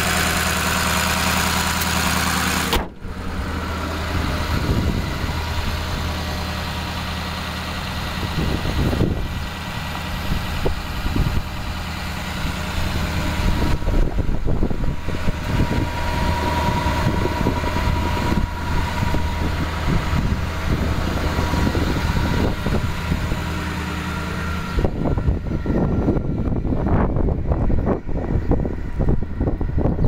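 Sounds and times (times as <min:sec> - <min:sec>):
steady whine: 0:00.0 - 0:30.0
truck engine idling: 0:00.0 - 0:30.0.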